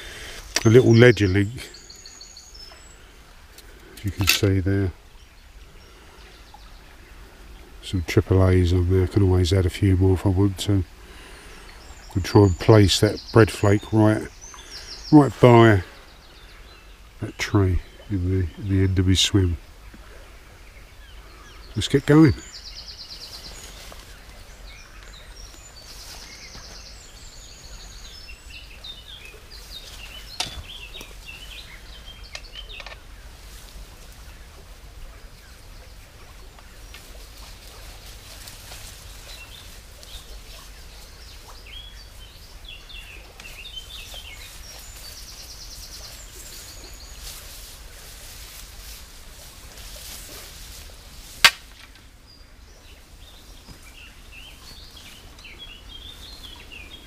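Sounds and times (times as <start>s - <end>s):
outdoor background noise: 0.0s - 57.0s
wild birds chirping and trilling: 0.0s - 57.0s.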